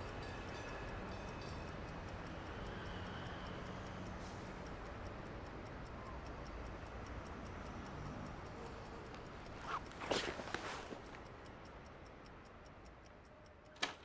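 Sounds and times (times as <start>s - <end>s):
faint quick ticking: 0.0s - 14.0s.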